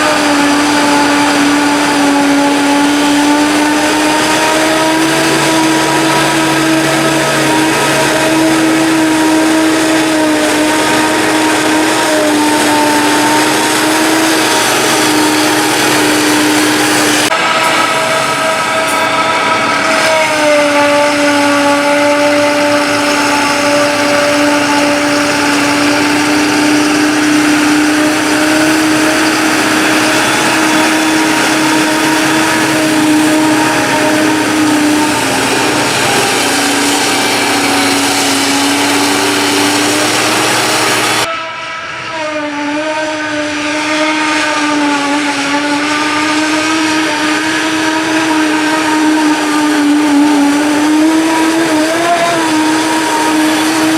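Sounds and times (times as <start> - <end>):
forage harvester drone: 0.0 - 53.9.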